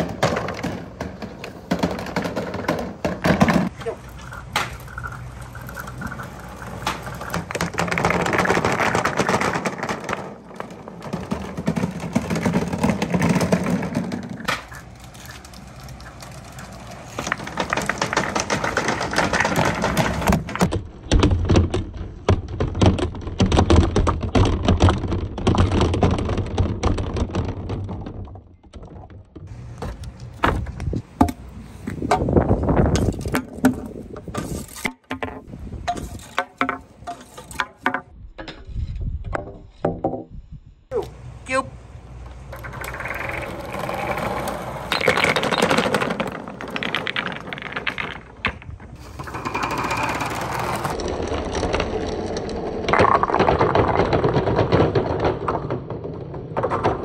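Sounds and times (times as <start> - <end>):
balls rolling and clattering: 0.0 - 57.0.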